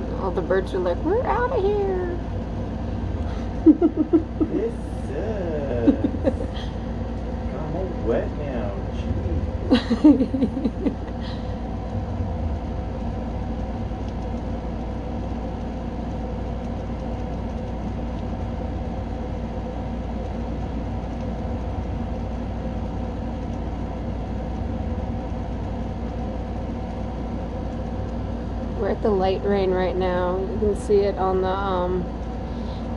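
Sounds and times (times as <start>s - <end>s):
air conditioner humming: 0.0s - 32.9s.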